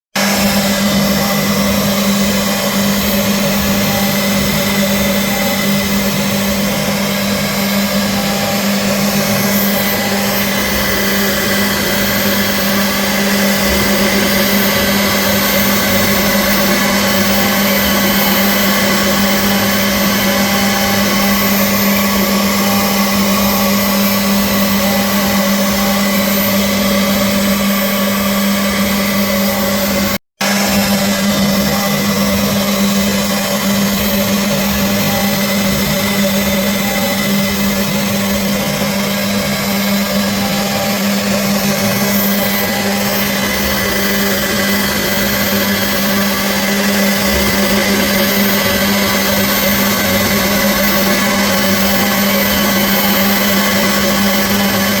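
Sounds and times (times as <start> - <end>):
milling machine running: 0.2 - 55.0.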